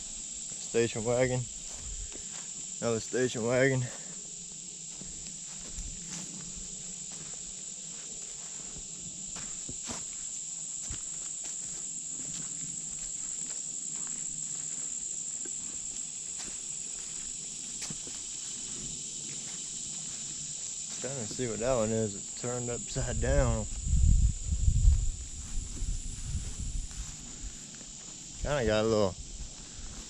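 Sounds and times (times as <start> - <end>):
faint footsteps: 0.0 - 3.2, 3.8 - 30.0
insect chorus droning: 0.0 - 30.0.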